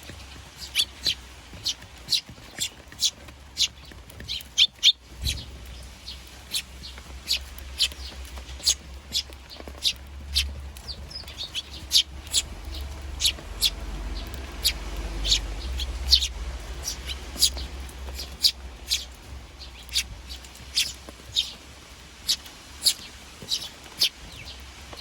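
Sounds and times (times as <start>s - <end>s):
sparrows chirping: 0.0s - 25.0s
steady low rumble: 4.8s - 25.0s.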